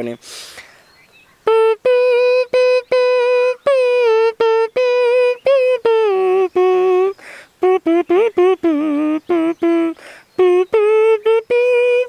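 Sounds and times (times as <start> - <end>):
man making twangy nasal notes: 1.4 - 12.0.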